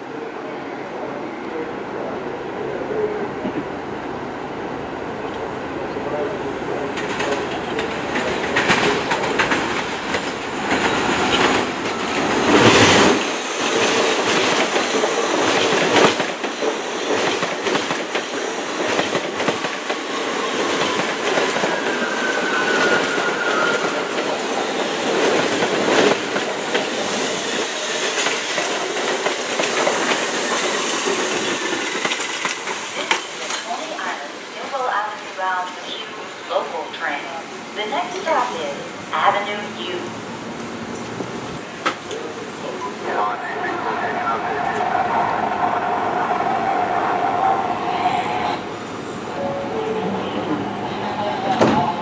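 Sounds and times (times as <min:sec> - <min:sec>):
subway train passing: 0:00.0 - 0:52.0.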